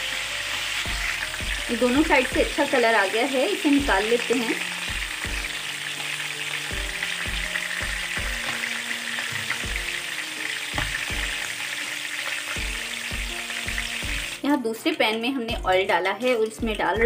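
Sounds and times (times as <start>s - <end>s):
chicken sizzling in oil: 0.0s - 14.7s
soft background music with beat: 0.0s - 17.0s.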